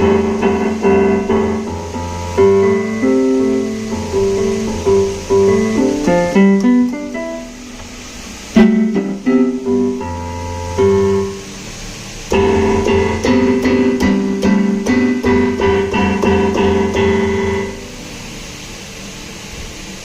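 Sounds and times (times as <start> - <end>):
keyboard steady beat: 0.0 - 11.4, 12.3 - 17.8
electronic keyboard piano notes: 0.0 - 18.9.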